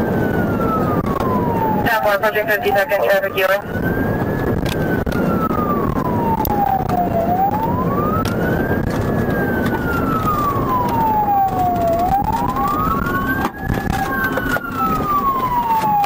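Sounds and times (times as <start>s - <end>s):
engine and road noise: 0.0s - 16.0s
police siren wailing: 0.0s - 16.0s.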